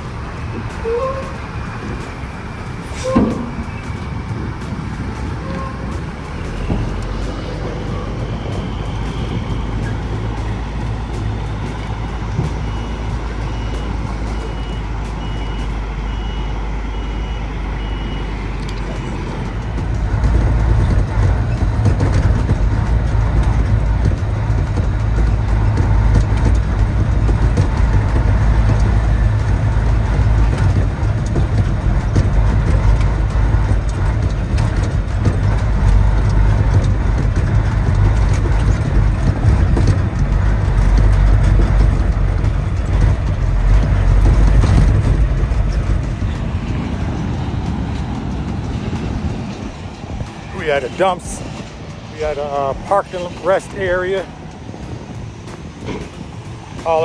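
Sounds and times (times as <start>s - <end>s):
dump truck diesel engine rumbling: 0.0s - 57.0s.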